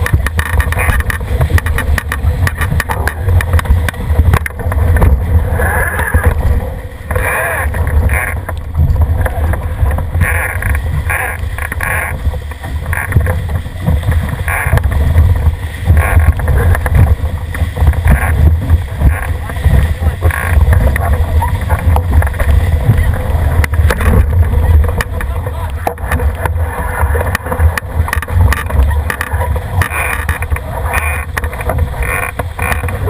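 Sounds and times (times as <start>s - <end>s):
water rushing past hull: 0.0s - 33.0s
wind buffeting microphone: 0.0s - 33.0s.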